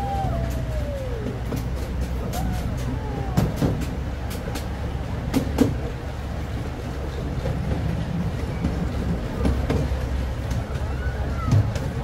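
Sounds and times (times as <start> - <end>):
miniature train rumbling: 0.0 - 12.0.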